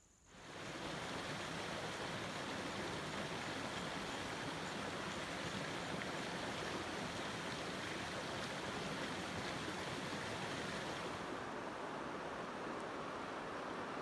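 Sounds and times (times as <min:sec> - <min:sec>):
river water rushing: 0:00.4 - 0:14.0.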